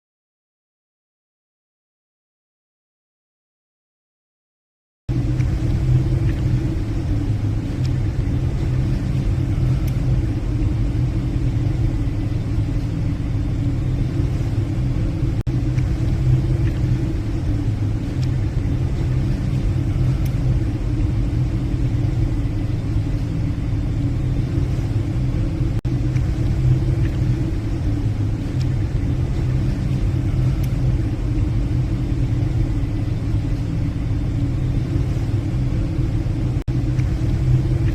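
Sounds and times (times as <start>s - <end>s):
ship engines droning: 5.1s - 37.9s
steady machinery hum: 5.1s - 37.9s.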